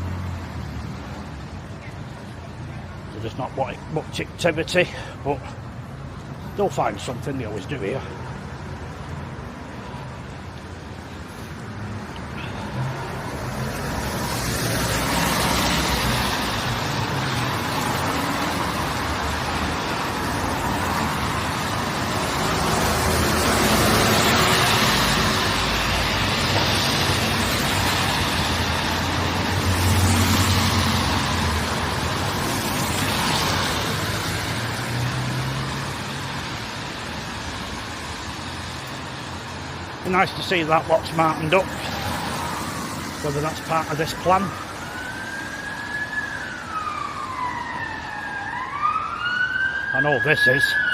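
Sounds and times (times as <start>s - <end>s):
vehicles passing close by: 0.0s - 50.9s.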